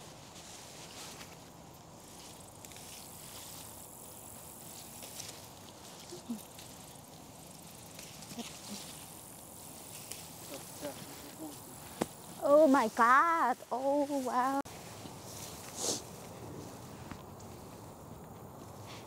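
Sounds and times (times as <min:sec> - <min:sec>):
herb plants rustling and crackling: 0:00.0 - 0:19.0
outdoor ambience: 0:00.0 - 0:19.0.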